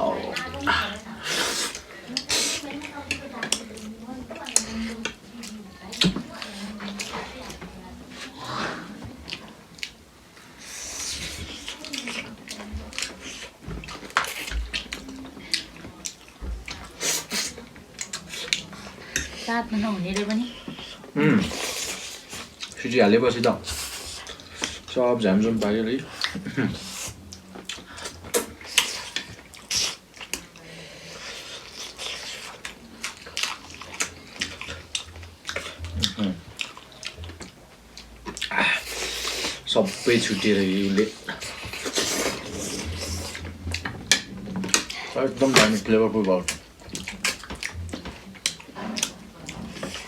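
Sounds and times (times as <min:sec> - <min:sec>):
wet chewing and slurping: 0:00.0 - 0:22.8, 0:23.4 - 0:50.0.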